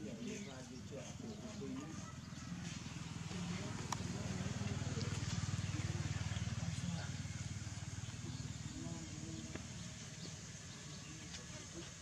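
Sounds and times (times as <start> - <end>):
engine idling: 0.9 - 12.0.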